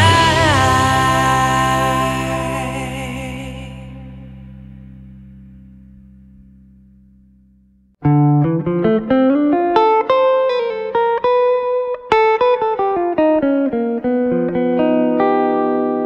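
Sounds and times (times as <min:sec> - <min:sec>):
plucked guitar melody: 0:00.0 - 0:16.0.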